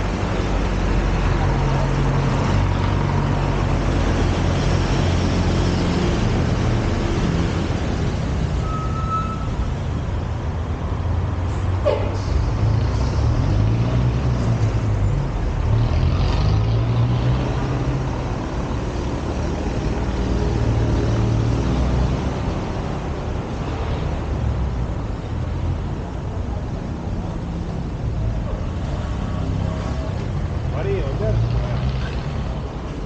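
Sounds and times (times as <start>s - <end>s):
vehicle engines rumbling: 0.0s - 33.0s.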